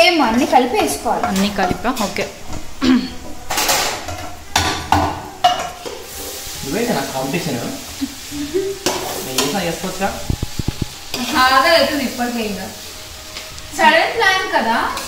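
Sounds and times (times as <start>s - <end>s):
frying sizzle: 0.0s - 15.0s
wooden spatula scraping a frying pan: 0.7s - 13.5s.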